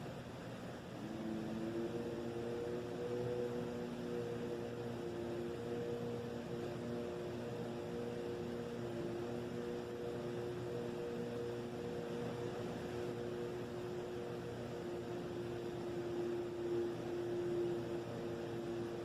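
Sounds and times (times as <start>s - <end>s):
constant hiss: 0.0s - 19.0s
droning low hum: 0.0s - 19.0s.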